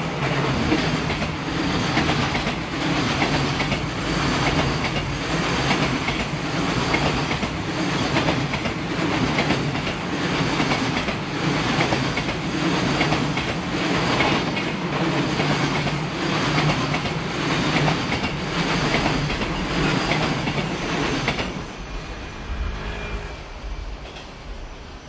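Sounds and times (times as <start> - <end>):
freight train wheels clattering: 0.0 - 21.7.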